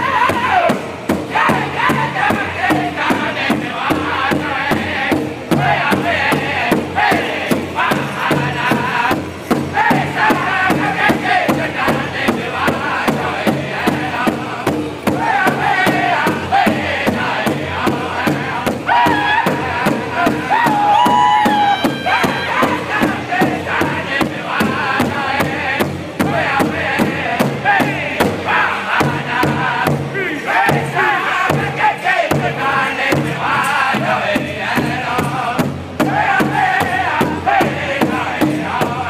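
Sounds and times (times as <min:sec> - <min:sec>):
group singing high-pitched: 0:00.0 - 0:39.0
large drum beaten with sticks: 0:00.0 - 0:39.0.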